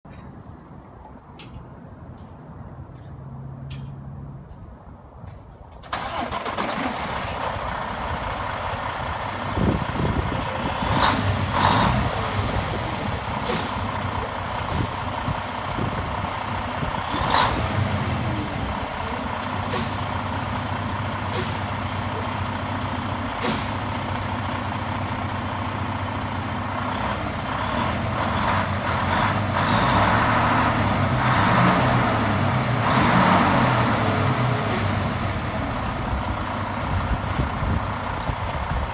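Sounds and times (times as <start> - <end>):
diesel truck engine revving: 5.9 - 38.9.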